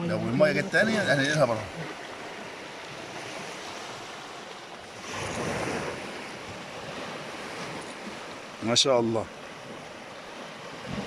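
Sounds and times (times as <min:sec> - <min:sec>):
sea waves washing onto shore: 0:00.0 - 0:11.0.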